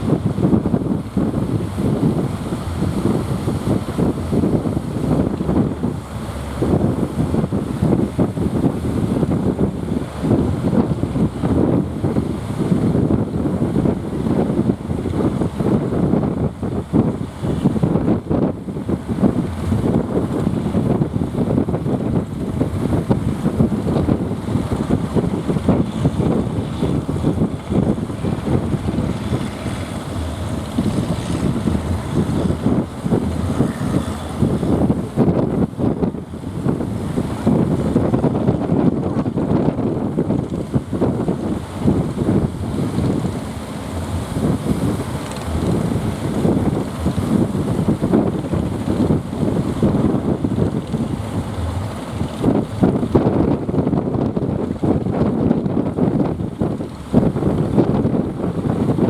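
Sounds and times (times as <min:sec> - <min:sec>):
sea waves: 0:00.0 - 0:59.0
wind buffeting microphone: 0:00.0 - 0:59.0.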